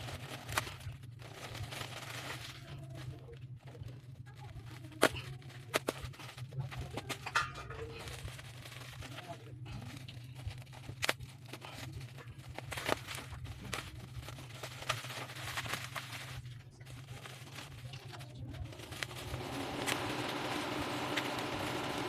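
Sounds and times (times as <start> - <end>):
packaging rustling and tearing: 0.0 - 22.0
steady low hum: 0.0 - 22.0.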